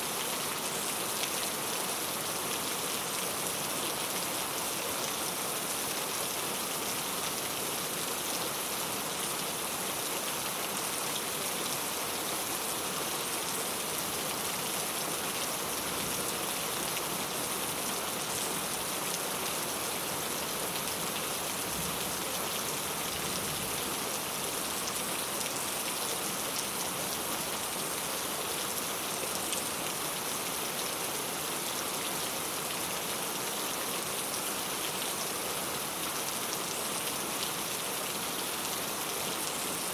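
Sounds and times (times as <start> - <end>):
rain on a tile roof: 0.0 - 39.9.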